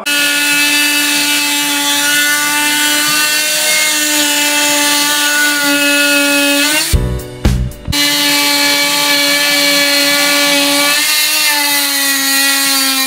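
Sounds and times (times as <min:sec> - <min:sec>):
oscillating multi-tool whining: 0:00.0 - 0:07.0, 0:08.0 - 0:13.0.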